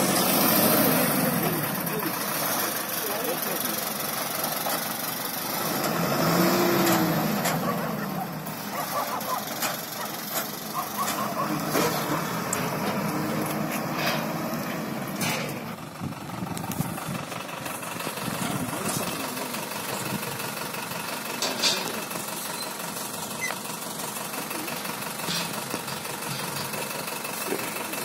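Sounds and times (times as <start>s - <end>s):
diesel truck engine driving off: 0.0s - 28.0s.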